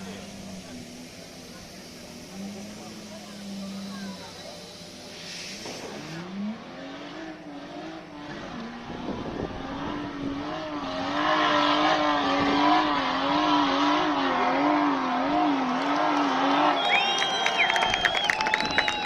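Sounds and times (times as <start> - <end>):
engine revving hard: 0.0 - 19.0.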